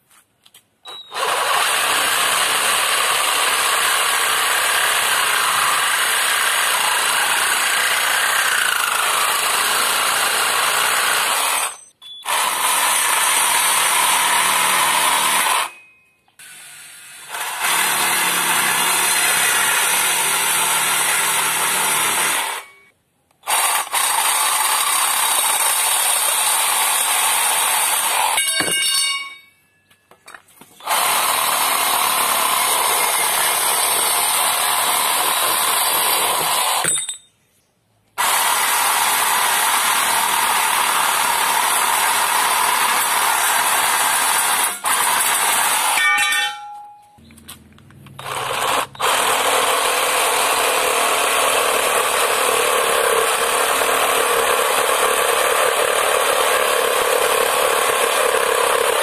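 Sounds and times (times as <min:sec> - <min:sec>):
reciprocating saw cutting steel: 0:00.9 - 0:29.5, 0:30.8 - 0:37.2, 0:38.2 - 0:47.0, 0:48.1 - 0:59.0
saw cutting wooden board: 0:01.0 - 0:15.8, 0:16.4 - 0:28.7, 0:30.8 - 0:37.0, 0:38.2 - 0:47.0, 0:48.1 - 0:59.0.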